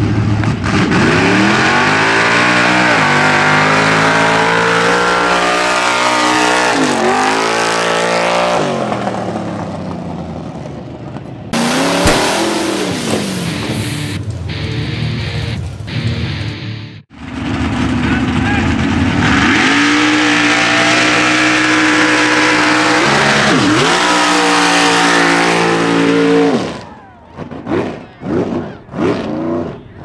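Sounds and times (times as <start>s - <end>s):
truck engine revving hard: 0.0s - 9.8s, 11.6s - 14.2s, 17.2s - 29.9s.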